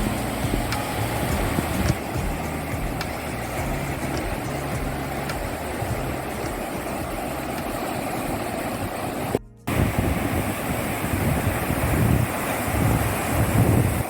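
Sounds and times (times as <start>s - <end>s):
ocean surf rushing: 0.0s - 14.0s
wind buffeting microphone: 0.0s - 14.0s.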